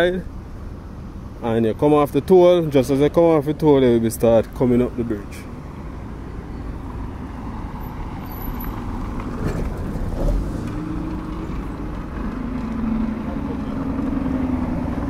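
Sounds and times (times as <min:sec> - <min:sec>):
cars driving on dirt road: 0:00.0 - 0:15.0
low engine hum: 0:02.7 - 0:15.0.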